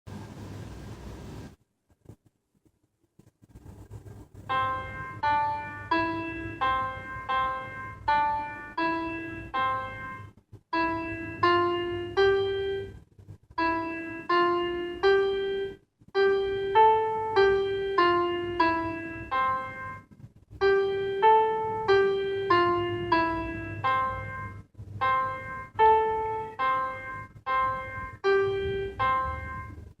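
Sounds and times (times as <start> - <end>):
piano melody: 4.4 - 30.0.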